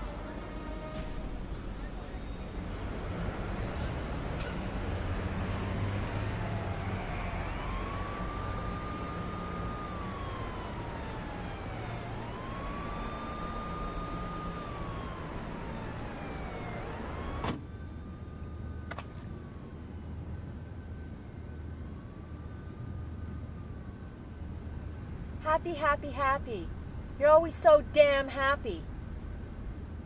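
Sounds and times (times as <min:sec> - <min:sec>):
wailing emergency siren: 0:00.0 - 0:25.4.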